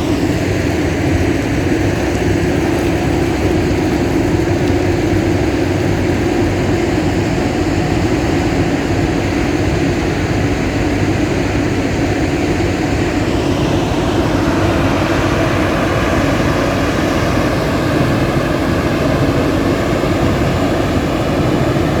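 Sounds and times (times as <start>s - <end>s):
crusher machinery drone: 0.0s - 22.0s.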